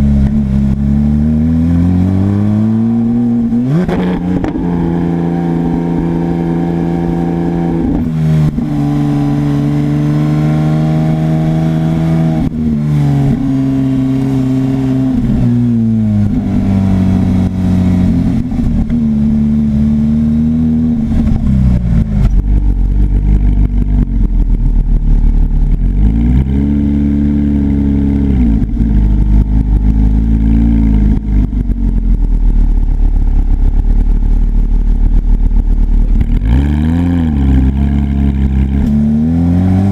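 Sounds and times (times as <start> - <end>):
low engine burbling rumble: 0.0 - 39.9
sports car engine revving: 0.0 - 39.9.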